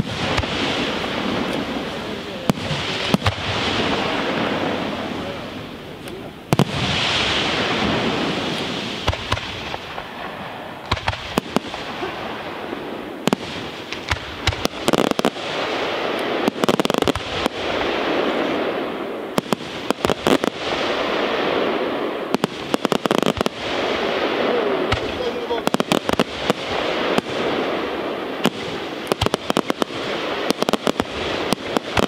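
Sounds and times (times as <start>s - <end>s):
firework shells bursting: 0.0s - 18.0s, 22.3s - 32.0s
fireworks fizzling and crackling: 0.0s - 32.0s.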